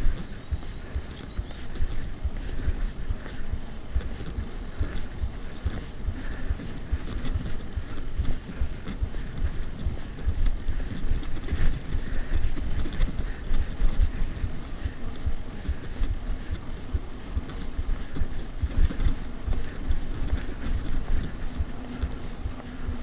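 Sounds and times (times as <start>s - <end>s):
mountain bike rolling on dirt: 0.0s - 23.0s
wind buffeting microphone: 0.0s - 23.0s.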